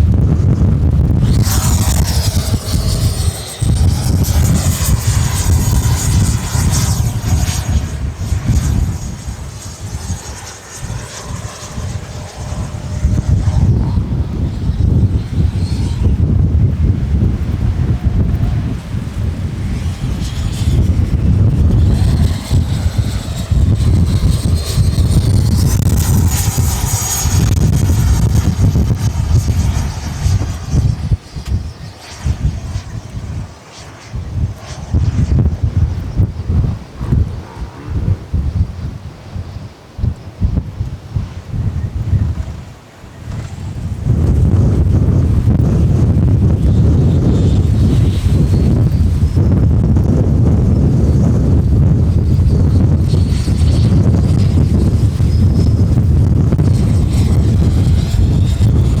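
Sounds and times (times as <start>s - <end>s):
electric ducted fan whining: 0.0s - 59.0s
wind buffeting on microphone: 0.0s - 59.0s.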